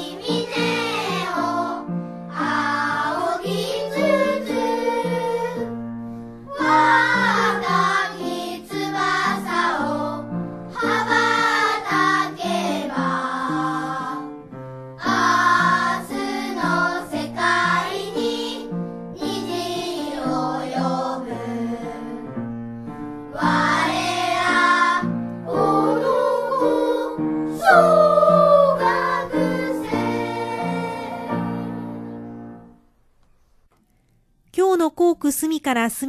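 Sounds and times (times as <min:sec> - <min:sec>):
children's choir singing: 0:00.0 - 0:05.7, 0:06.5 - 0:14.4, 0:15.0 - 0:22.4, 0:23.3 - 0:32.6.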